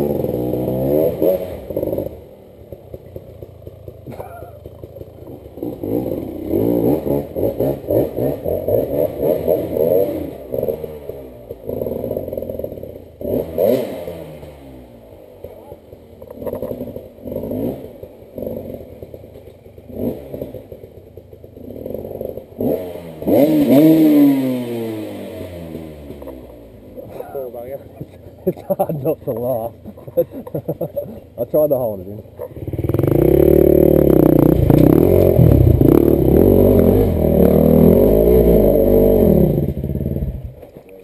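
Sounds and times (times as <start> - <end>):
dirt bike engine revving: 0.0 - 2.3, 4.8 - 15.1, 16.4 - 19.2, 19.8 - 20.8, 21.5 - 40.6.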